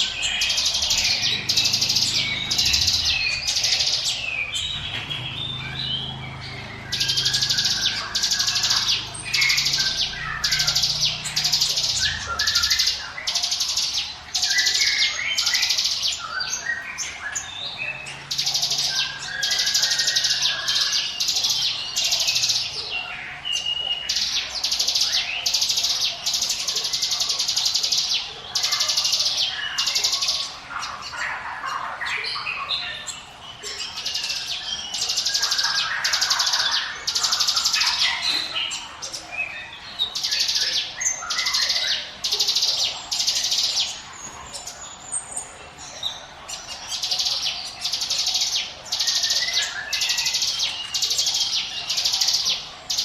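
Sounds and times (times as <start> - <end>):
bird calling in buzzy phrases: 0.0 - 53.0.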